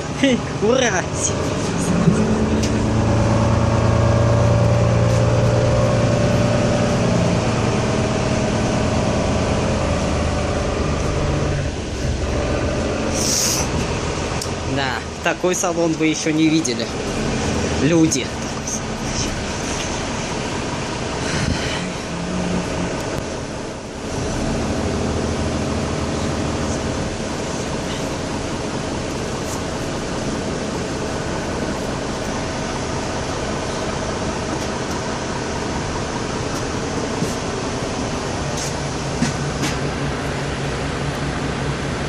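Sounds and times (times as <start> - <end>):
diesel engine hum: 0.0 - 42.0
ventilation and road noise: 0.0 - 42.0.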